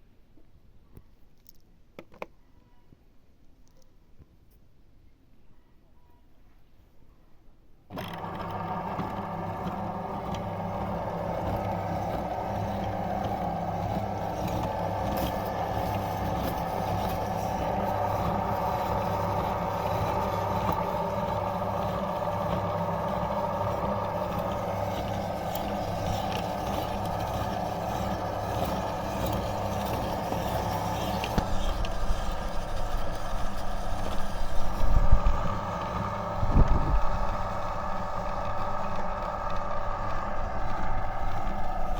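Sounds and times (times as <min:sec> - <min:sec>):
electric meat grinder humming: 0:07.9 - 0:41.9.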